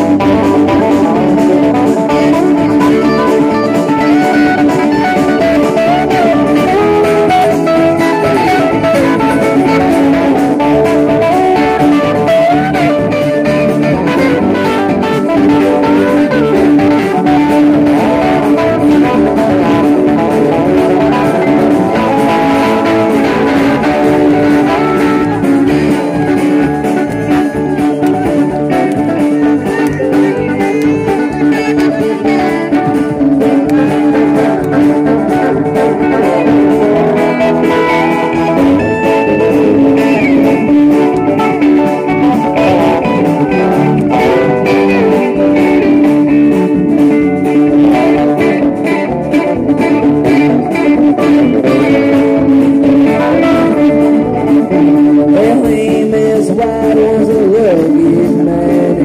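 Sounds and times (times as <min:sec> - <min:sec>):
lead guitar bending notes: 0:00.0 - 0:59.0
live band instrumental jam: 0:00.0 - 0:59.0.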